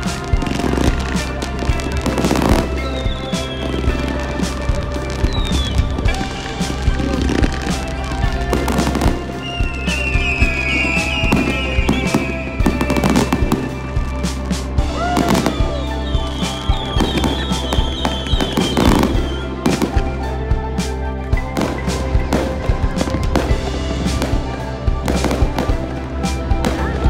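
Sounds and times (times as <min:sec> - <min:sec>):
fireworks bangs and crackling: 0:00.0 - 0:27.0
music: 0:00.0 - 0:27.0.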